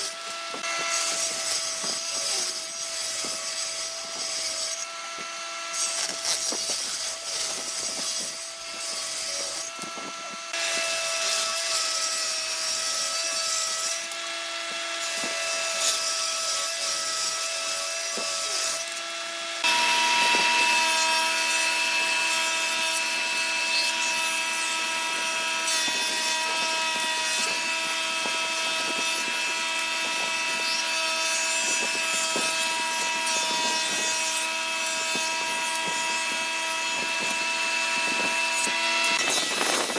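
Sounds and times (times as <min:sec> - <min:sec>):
woodworking machine whining: 0:00.0 - 0:39.9.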